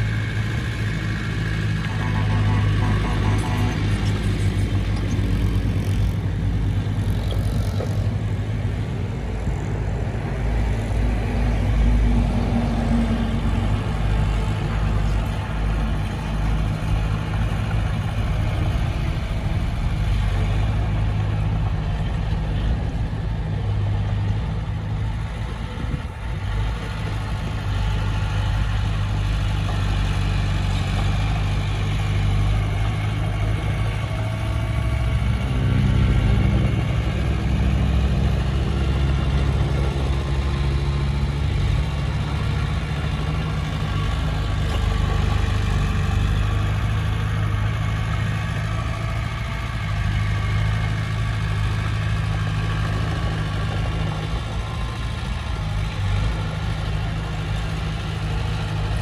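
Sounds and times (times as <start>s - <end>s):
heavy diesel engine humming: 0.0s - 59.0s.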